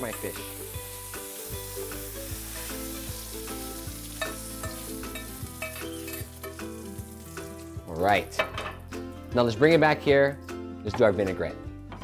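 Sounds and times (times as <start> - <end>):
tomatoes and drippings sizzling: 0.0 - 11.5.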